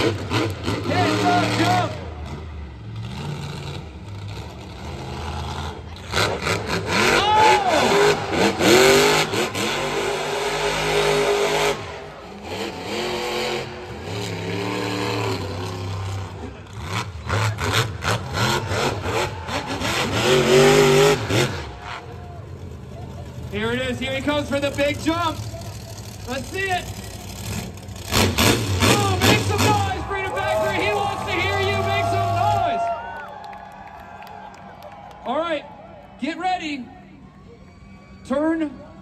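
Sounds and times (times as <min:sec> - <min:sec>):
monster truck engine revving: 0:00.0 - 0:32.8.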